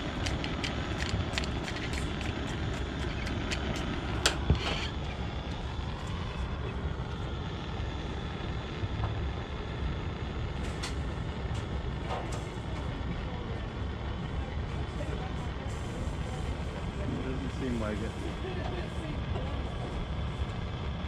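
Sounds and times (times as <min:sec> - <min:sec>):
burner rushing roar: 0:00.0 - 0:21.0.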